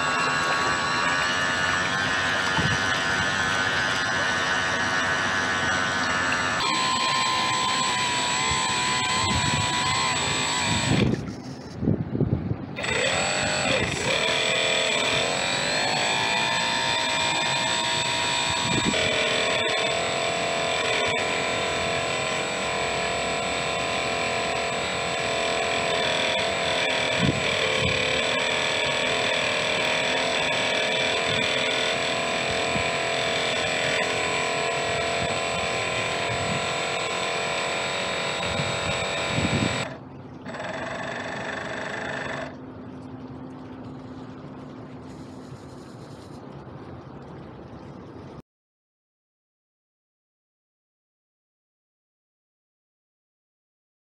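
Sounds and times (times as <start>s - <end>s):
model boat motor whine: 0.0s - 47.8s.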